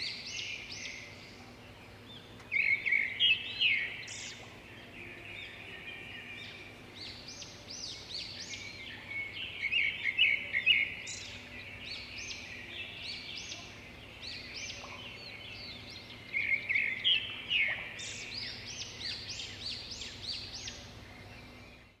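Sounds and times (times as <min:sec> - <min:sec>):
birds chirping and whistling: 0:00.0 - 0:22.0.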